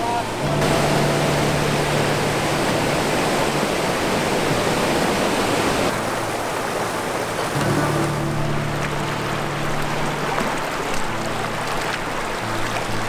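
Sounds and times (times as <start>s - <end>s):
waterfall rushing into pool: 0.0s - 13.0s.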